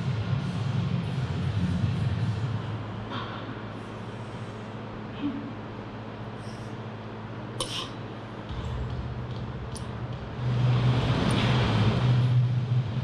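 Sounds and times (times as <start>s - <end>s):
gym background hum: 0.0s - 13.0s.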